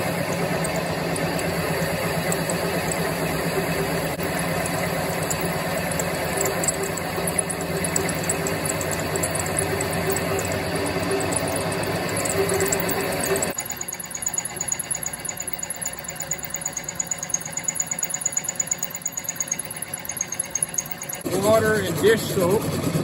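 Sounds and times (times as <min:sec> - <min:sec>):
drill press motor hum: 0:00.0 - 0:21.3
hole saw grinding metal: 0:00.0 - 0:21.3.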